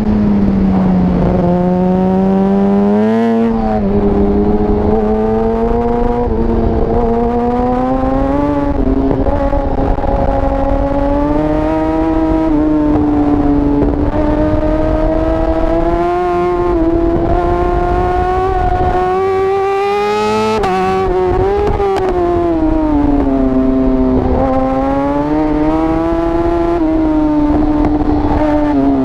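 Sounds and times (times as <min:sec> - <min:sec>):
motorcycle engine revving high: 0:00.0 - 0:29.0
wind rush: 0:00.0 - 0:29.0.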